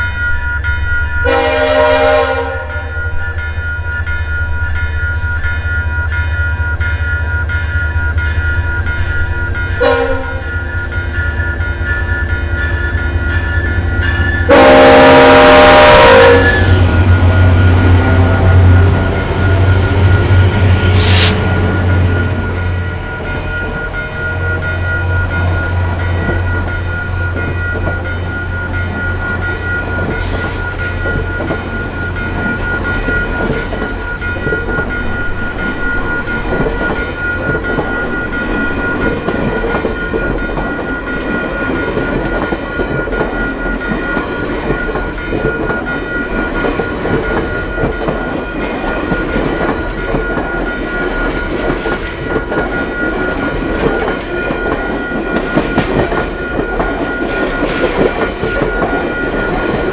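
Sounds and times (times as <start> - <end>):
high-pitched ringing tone: 0.0 - 1.8, 2.6 - 59.9
train cars rumbling on rails: 0.0 - 59.9
train engine drone: 0.0 - 59.9.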